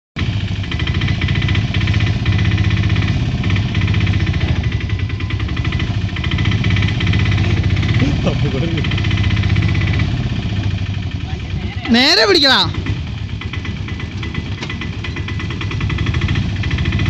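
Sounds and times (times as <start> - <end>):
auto-rickshaw engine clattering: 0.2 - 17.0.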